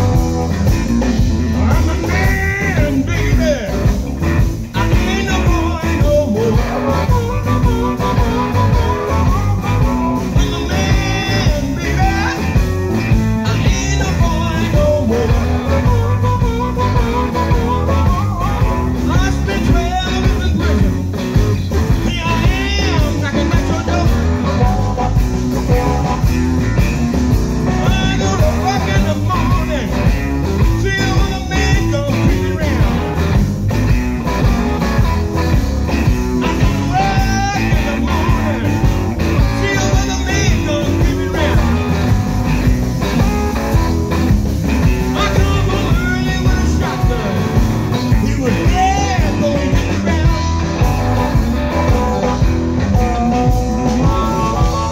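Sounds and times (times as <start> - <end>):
electric blues band playing: 0.0 - 54.9
harmonica lead: 0.0 - 54.9.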